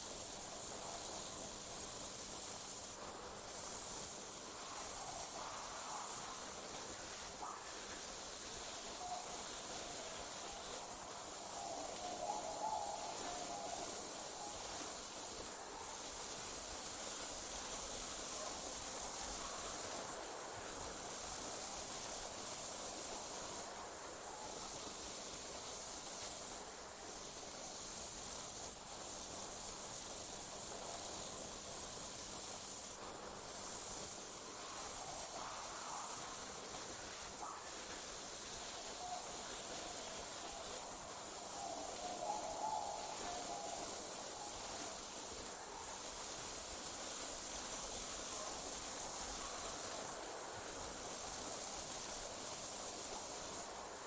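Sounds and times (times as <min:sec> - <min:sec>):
night insects trilling: 0:00.0 - 0:54.0.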